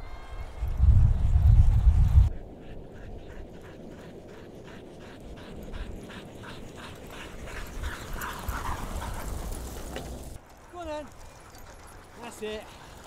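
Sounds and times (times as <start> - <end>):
dogs panting while running: 2.1 - 13.0.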